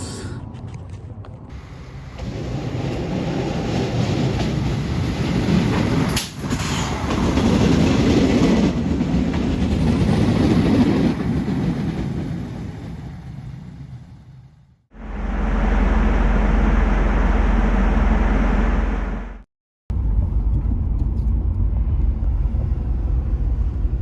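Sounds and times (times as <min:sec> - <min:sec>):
train rumbling past: 0:01.5 - 0:24.0.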